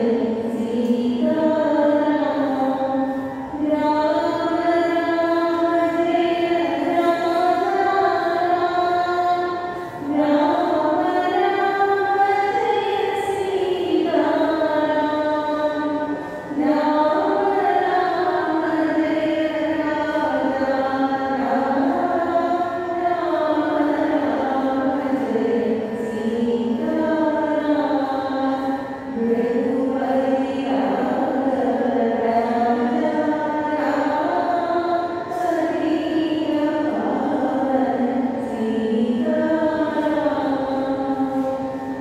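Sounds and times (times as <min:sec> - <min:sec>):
women singing a prayer chant: 0:00.0 - 0:42.0.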